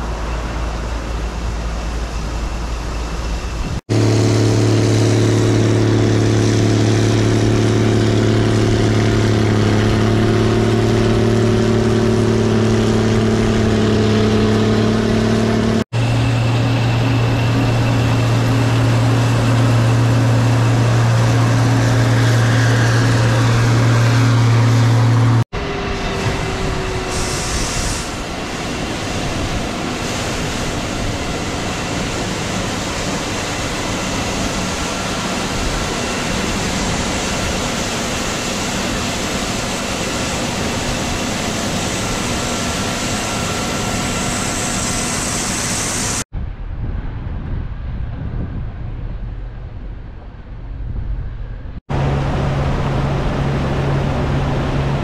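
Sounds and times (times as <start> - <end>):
combine harvester engine hum: 0.0 - 48.0, 49.0 - 55.0.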